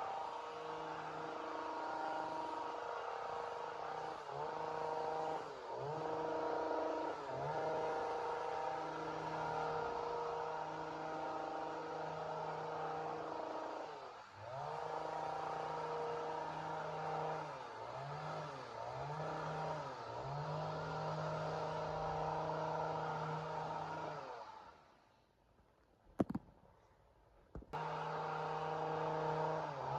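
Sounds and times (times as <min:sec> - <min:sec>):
chainsaw running at high revs: 0:00.0 - 0:24.9, 0:27.8 - 0:29.9.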